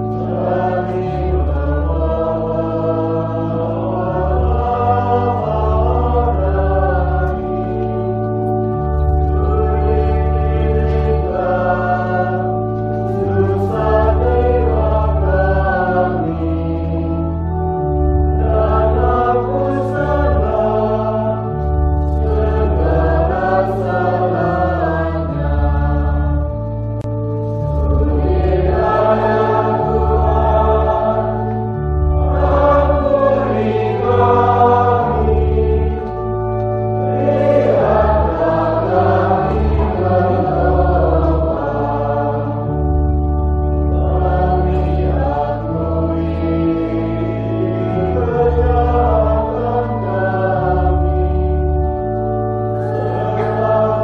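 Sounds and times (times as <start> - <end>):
choir singing a hymn: 0.0 - 54.0
instrumental accompaniment bass notes: 0.0 - 54.0.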